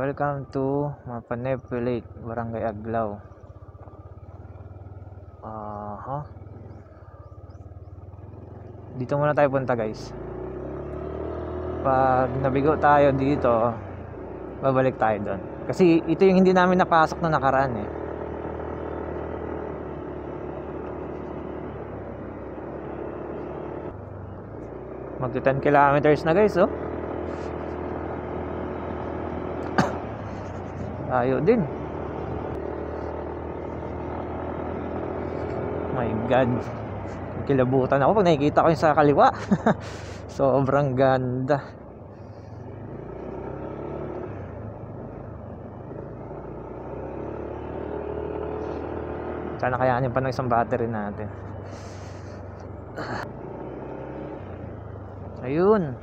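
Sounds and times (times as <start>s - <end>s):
road and wind noise: 0.0s - 56.0s
scooter engine cruising: 0.0s - 56.0s.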